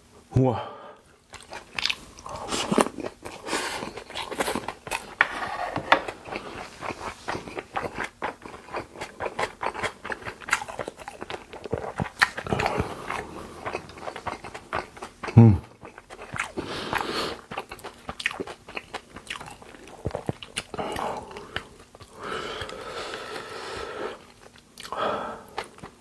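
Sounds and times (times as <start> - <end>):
wet chewing: 1.1 - 26.0.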